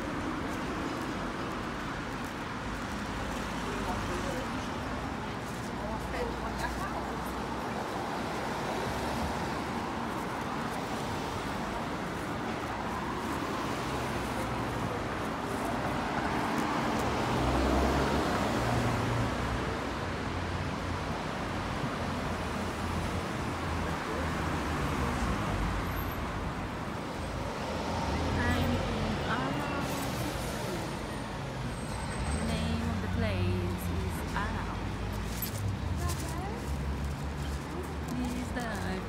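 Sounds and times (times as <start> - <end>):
cars driving past: 0.0 - 39.0.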